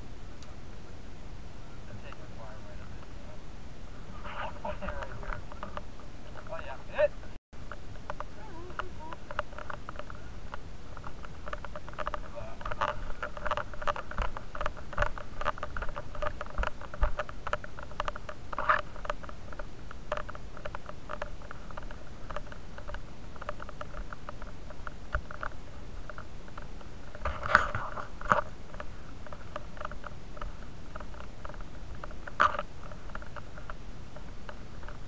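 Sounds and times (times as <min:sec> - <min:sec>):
camera rubbing against clothing: 0:04.1 - 0:07.0, 0:08.1 - 0:35.0.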